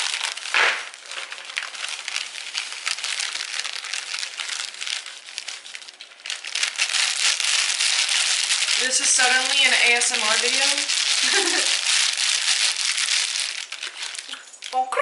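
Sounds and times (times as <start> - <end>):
powder pouring into plastic bowl: 0.0 - 14.8
plastic bag crinkling: 0.0 - 15.0.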